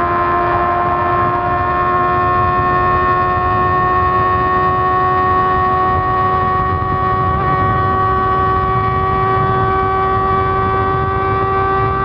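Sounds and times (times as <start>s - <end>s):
motorcycle engine high-pitched wail: 0.0s - 12.0s
wind and road rumble: 0.0s - 12.0s.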